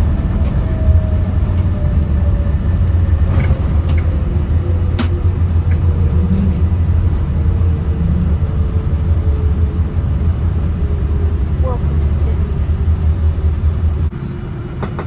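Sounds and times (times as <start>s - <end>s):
low cabin rumble: 0.0s - 15.0s.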